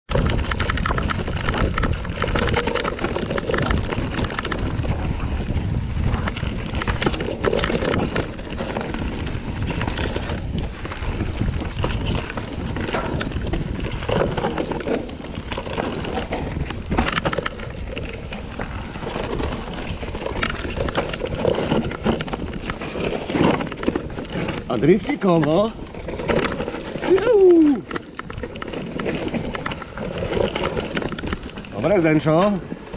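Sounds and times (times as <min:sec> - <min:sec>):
bike rattling over bumps: 0:00.1 - 0:32.9
bike tyres on dirt and leaves: 0:00.1 - 0:32.9
wind buffeting microphone: 0:00.1 - 0:32.9.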